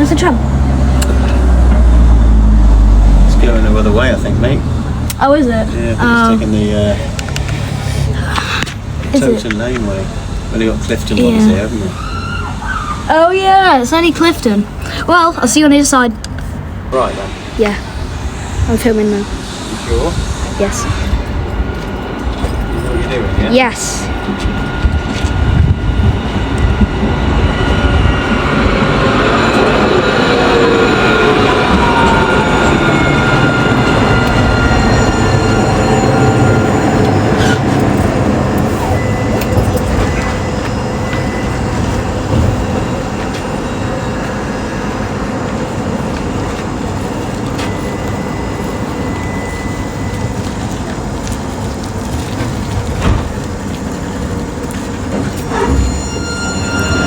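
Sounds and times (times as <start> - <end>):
electric tram motors whining: 0.0 - 57.0
tram steady hum: 0.0 - 57.0.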